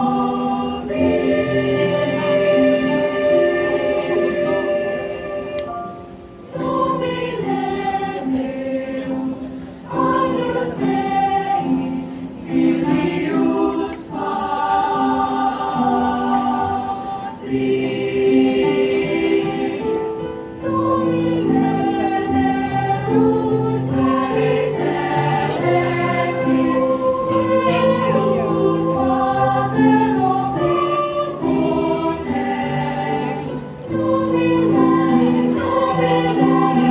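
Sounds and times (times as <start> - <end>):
children's choir singing a hymn: 0.0 - 36.9.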